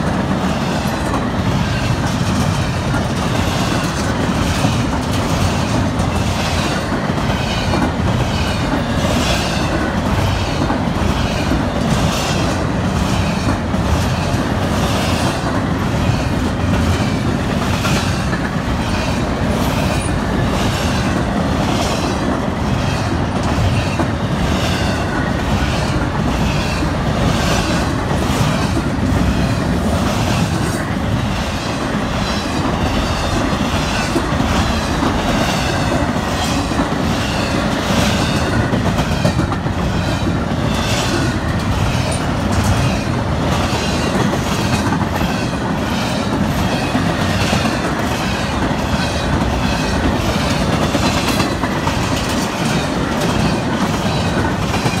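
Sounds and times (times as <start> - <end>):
freight train cars rumbling: 0.0 - 55.0
train wheels clicking: 0.0 - 55.0.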